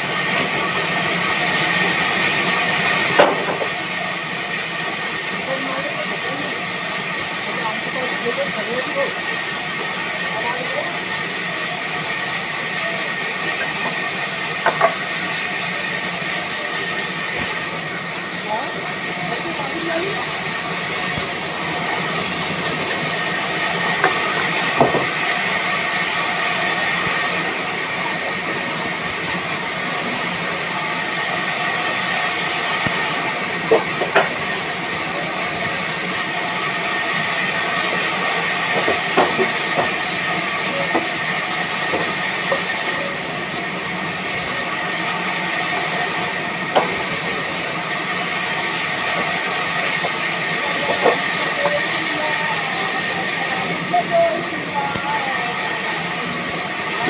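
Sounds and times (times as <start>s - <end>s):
band sawmill hissing: 0.0s - 57.0s.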